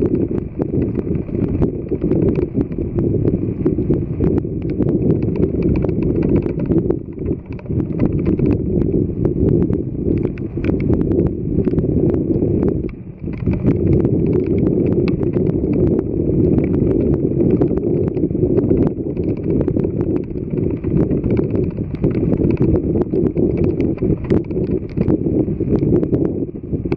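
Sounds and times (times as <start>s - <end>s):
steady low rumble: 0.0s - 26.9s.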